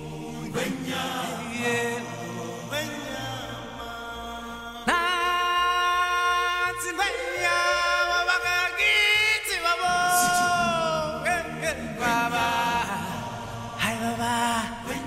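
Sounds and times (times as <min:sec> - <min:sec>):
voices singing with vibrato: 0:00.0 - 0:15.0.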